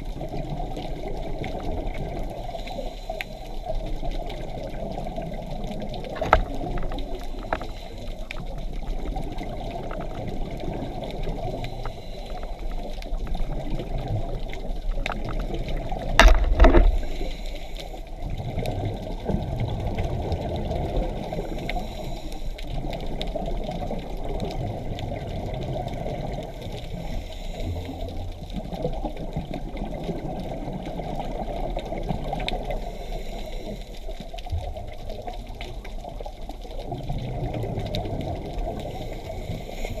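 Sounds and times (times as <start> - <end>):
underwater regulator bubbles gurgling: 0.0 - 40.0.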